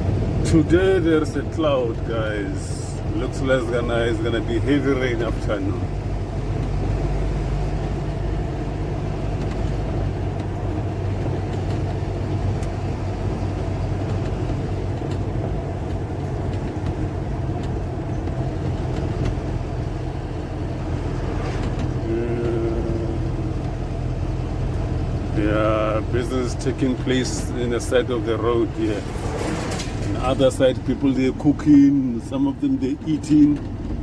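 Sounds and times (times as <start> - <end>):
car engine drone: 0.0 - 34.0
tyre and road noise: 0.0 - 34.0.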